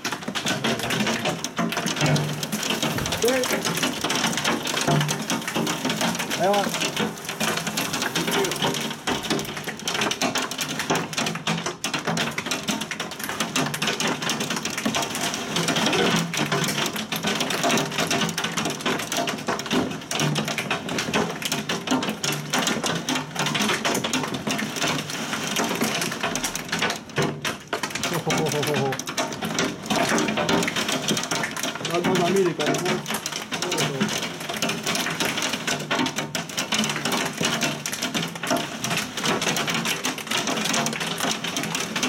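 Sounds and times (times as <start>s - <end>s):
heavy rain and hail pelting: 0.0s - 42.0s.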